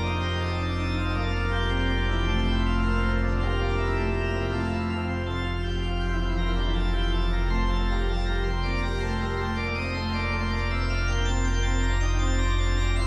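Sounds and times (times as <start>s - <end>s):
church pipe organ chords: 0.0s - 13.0s.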